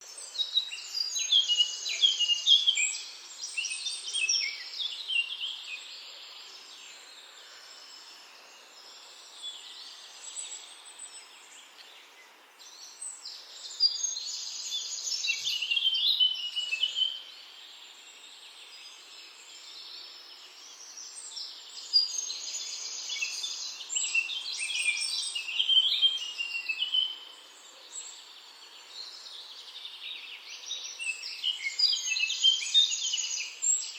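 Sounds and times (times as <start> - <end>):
faint outdoor hiss: 0.0 - 33.9
songbirds chirping: 0.0 - 33.9.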